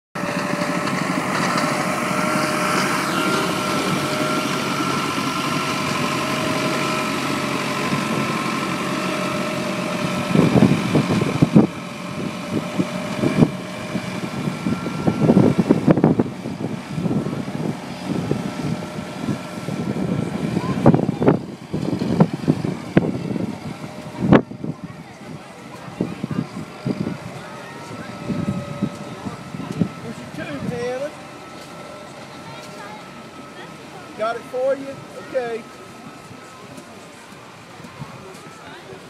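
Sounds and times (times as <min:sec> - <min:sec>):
snow groomer engine running: 0:00.2 - 0:39.0.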